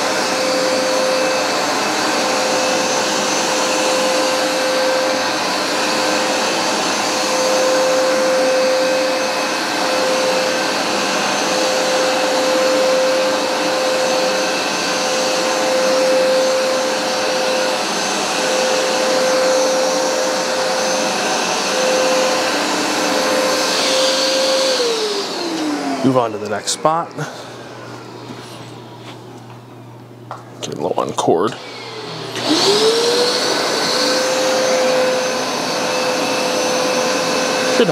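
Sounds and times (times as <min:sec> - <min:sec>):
carpet cleaner motor whine: 0:00.0 - 0:37.9.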